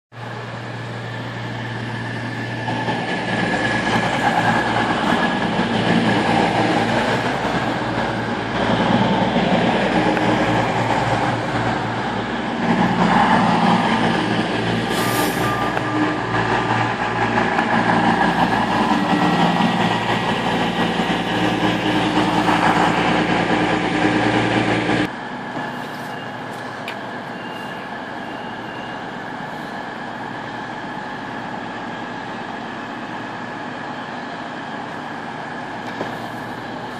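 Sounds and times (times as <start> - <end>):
diesel train engines and wheels: 0.1 - 36.9
train engines idling: 0.2 - 36.9.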